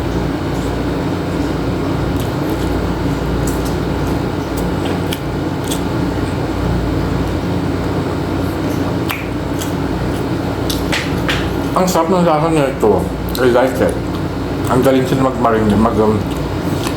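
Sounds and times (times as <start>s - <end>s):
fan humming: 0.0s - 16.9s.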